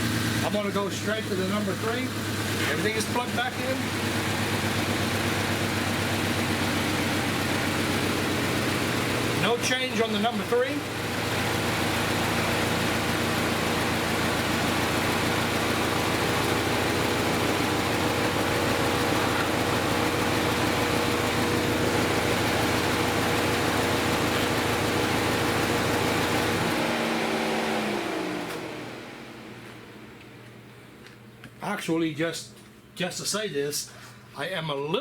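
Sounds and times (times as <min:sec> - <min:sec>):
car engine idling with misfire: 0:00.0 - 0:30.2
engine spinning down: 0:00.0 - 0:30.3.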